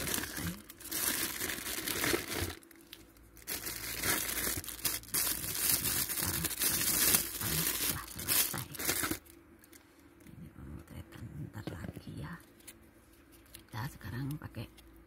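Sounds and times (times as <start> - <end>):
crinkling and rustling handling: 0.0 - 10.4, 11.7 - 13.7.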